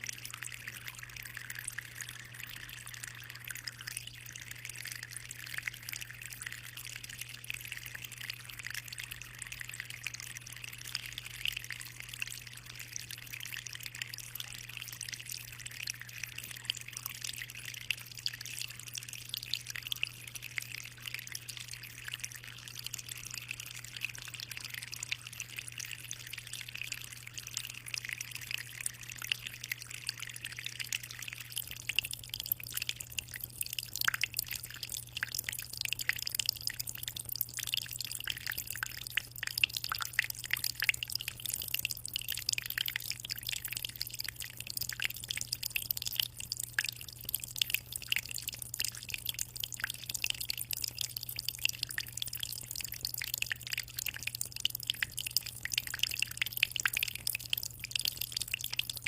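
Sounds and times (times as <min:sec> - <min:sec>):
aquarium water trickling: 0:00.0 - 0:59.0.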